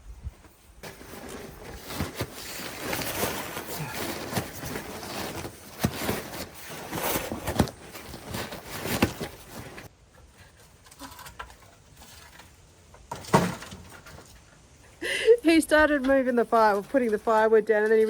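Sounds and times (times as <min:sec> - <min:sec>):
firewood rustling: 0:00.0 - 0:14.9.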